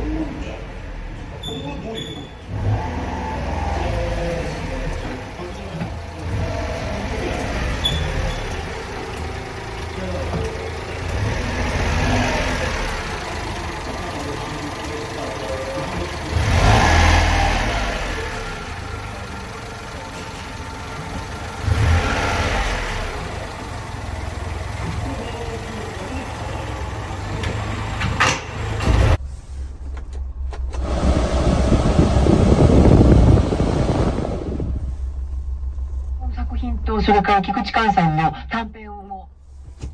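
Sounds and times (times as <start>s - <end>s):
truck engine idling and revving: 0.0s - 39.9s.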